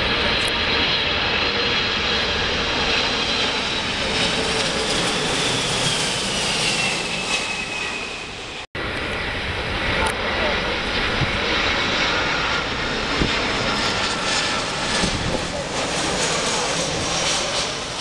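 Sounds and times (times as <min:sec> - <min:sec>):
jet engines passing overhead: 0:00.0 - 0:18.0.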